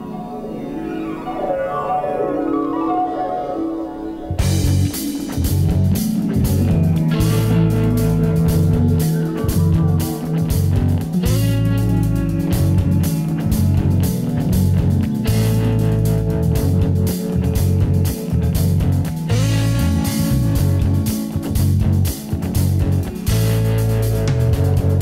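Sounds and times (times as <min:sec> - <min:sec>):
rock music with guitar and drums: 0:04.2 - 0:25.0.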